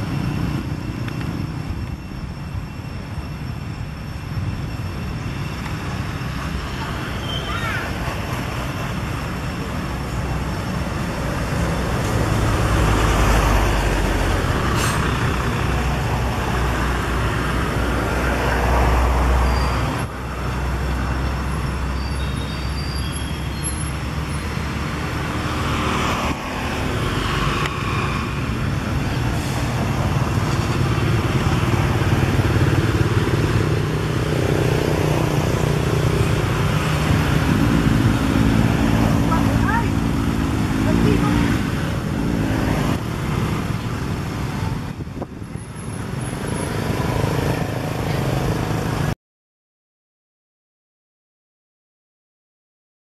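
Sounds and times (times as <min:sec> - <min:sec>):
road traffic rumble: 0:00.0 - 0:49.2
vehicles passing: 0:00.0 - 0:49.2.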